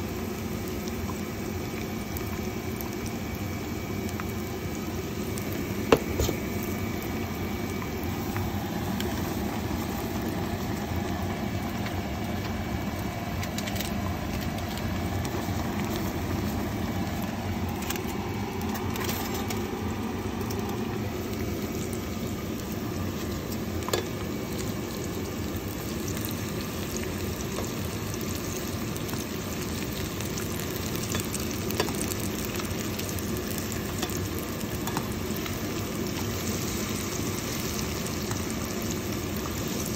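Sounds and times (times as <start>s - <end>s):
food frying in hot oil: 0.0s - 39.9s.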